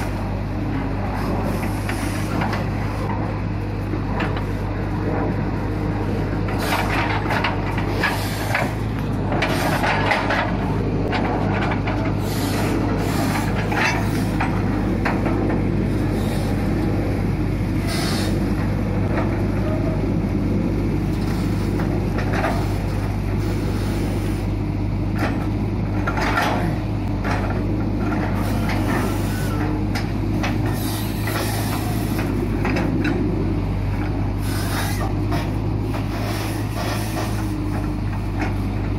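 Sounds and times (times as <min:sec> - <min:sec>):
excavator diesel engine running: 0:00.0 - 0:38.9
hydraulics working: 0:00.0 - 0:38.9.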